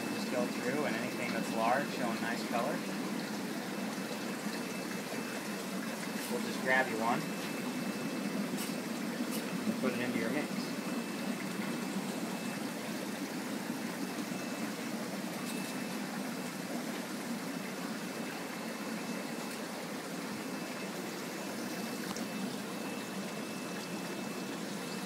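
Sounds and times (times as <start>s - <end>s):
aquarium filter water trickling: 0.0s - 25.0s.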